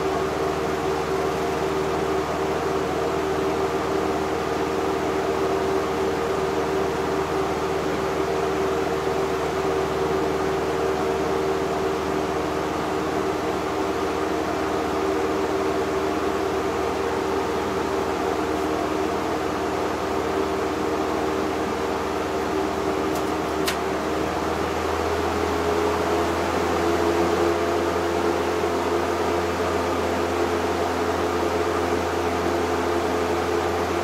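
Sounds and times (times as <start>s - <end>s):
box fan running: 0.0s - 34.0s.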